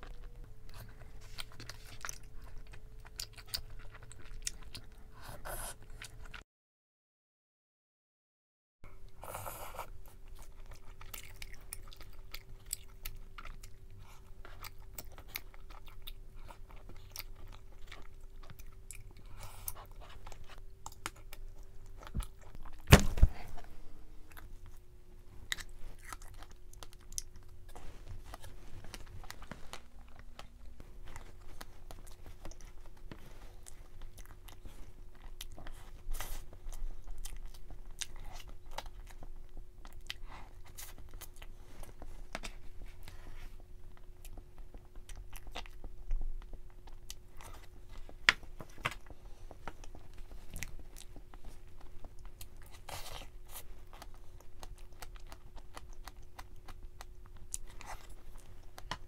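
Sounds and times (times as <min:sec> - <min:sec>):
person chewing crunchy food: 0:00.0 - 0:06.4, 0:09.0 - 0:59.0.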